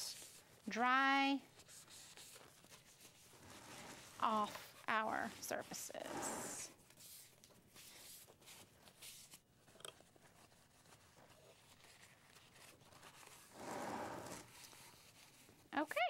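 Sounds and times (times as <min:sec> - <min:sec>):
paper towel rustling and rubbing: 0:01.3 - 0:15.7.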